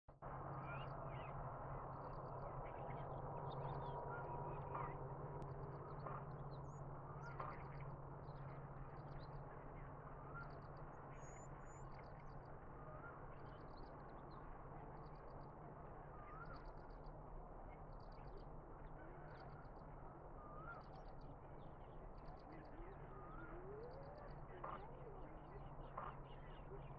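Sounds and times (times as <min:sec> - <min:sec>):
steady low hum: 0:00.1 - 0:26.9
soft rising bird chirp: 0:00.3 - 0:26.9.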